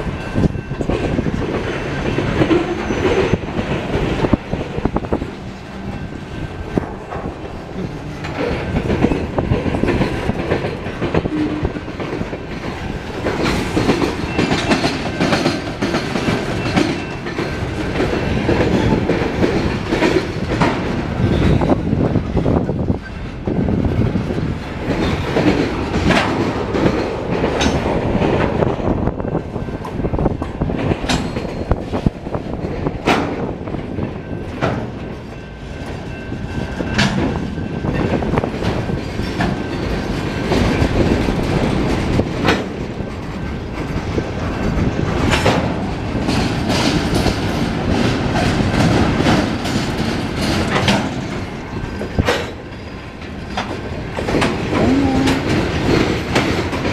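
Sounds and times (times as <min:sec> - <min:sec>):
train wheels rumbling on rails: 0:00.0 - 0:56.9
wheels clacking over rail joints: 0:00.0 - 0:56.9.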